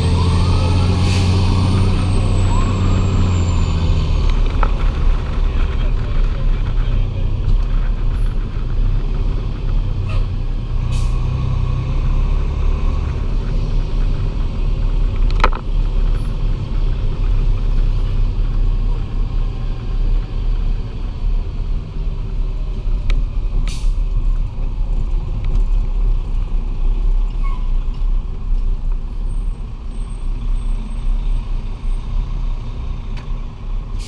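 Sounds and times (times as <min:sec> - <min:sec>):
fire engine diesel rumble: 0:00.0 - 0:34.0.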